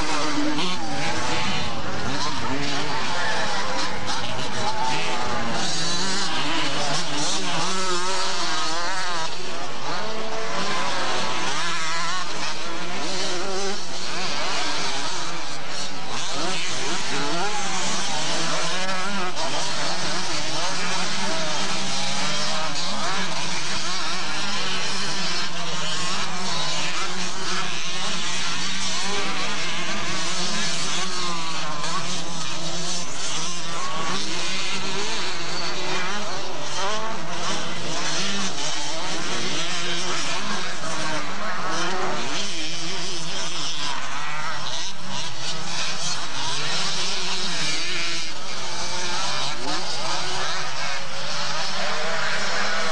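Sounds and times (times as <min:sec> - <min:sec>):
motocross motorcycles revving: 0:00.0 - 0:52.9.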